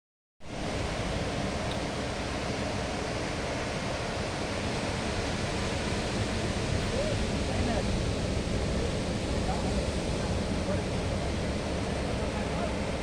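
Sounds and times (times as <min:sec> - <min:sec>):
sea surf washing ashore: 0:00.4 - 0:13.0.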